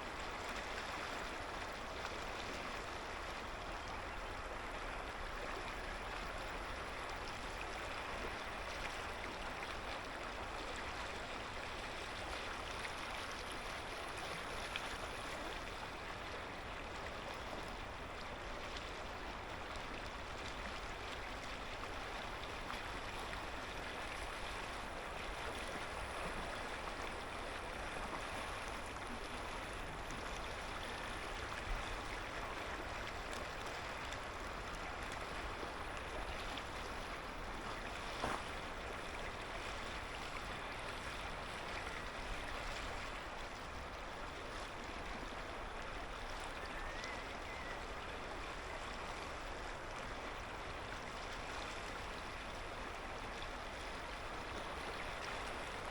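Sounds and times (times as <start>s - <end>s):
river water babbling over stones: 0.0s - 55.9s.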